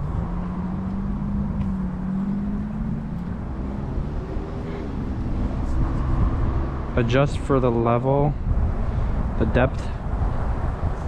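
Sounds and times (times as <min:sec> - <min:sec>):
low traffic rumble: 0:00.0 - 0:11.0
vehicle engine hum: 0:00.0 - 0:11.0.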